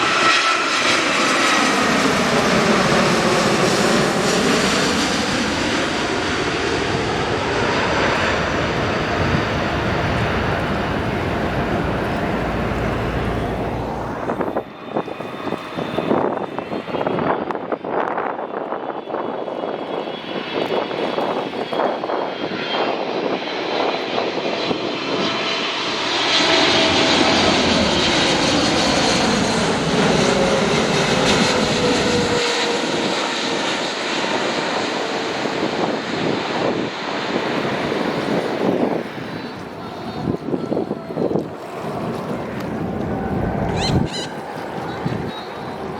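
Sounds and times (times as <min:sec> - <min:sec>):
jet airliner flying past: 0:00.0 - 0:45.9.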